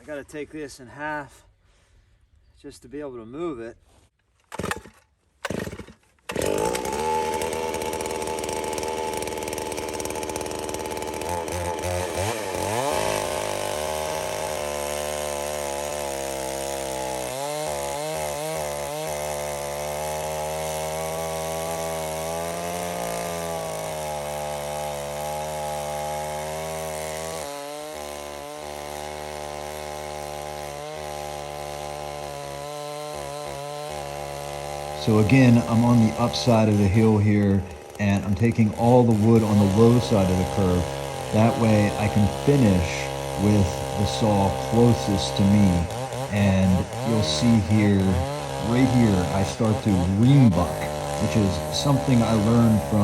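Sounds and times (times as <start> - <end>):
chainsaw cutting log: 4.4 - 53.0.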